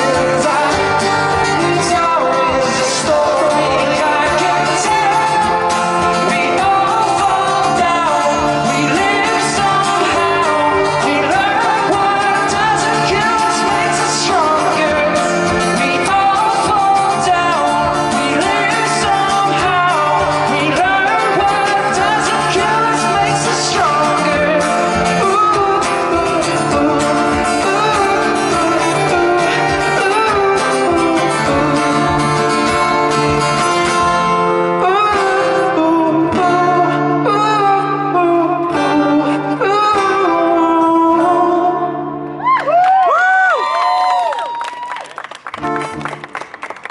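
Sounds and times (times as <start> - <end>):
person singing: 0.0 - 44.4
guitar: 0.0 - 46.9.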